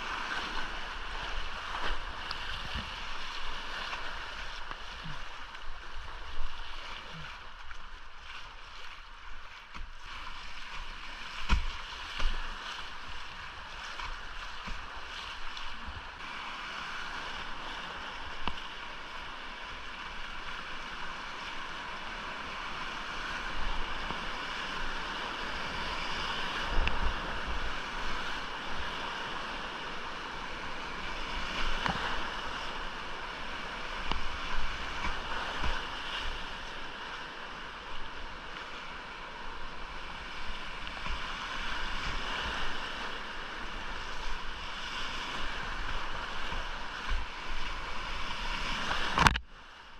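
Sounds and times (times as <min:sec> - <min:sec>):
rushing creek water: 0:00.0 - 0:49.9.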